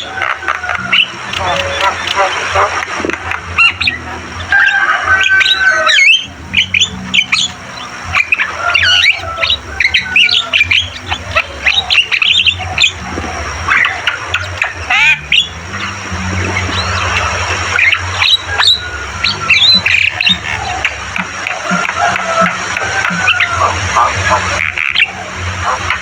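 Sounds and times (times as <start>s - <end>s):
mynas squawking and chirping: 0.0s - 26.0s.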